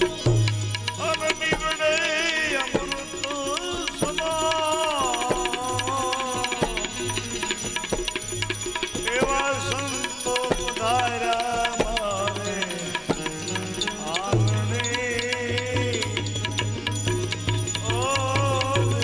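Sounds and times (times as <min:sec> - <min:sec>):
tabla strokes: 0:00.0 - 0:19.0.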